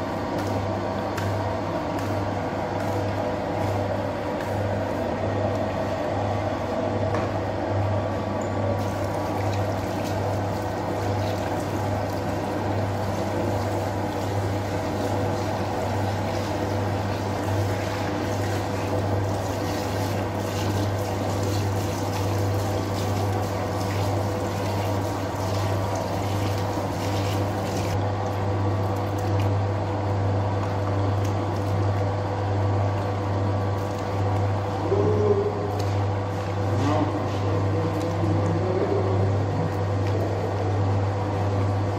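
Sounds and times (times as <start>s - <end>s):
dough kneading machine hum: 0.0s - 41.9s.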